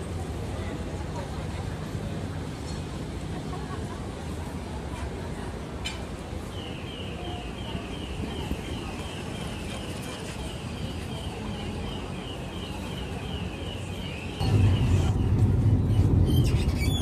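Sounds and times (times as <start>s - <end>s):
bus interior rumble: 0.0s - 17.0s
city street noise: 0.0s - 17.0s.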